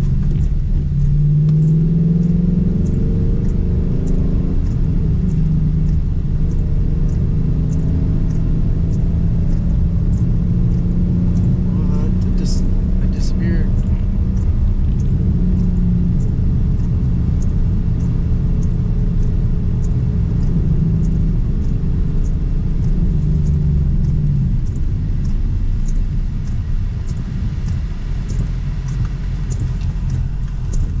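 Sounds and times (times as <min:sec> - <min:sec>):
car engine and road rumble: 0:00.0 - 0:31.0
light ticking: 0:00.0 - 0:31.0.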